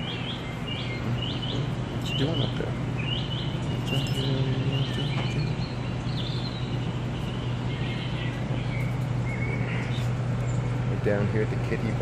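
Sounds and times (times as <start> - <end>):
air filters humming: 0.0 - 12.0
water pumps running: 0.0 - 12.0.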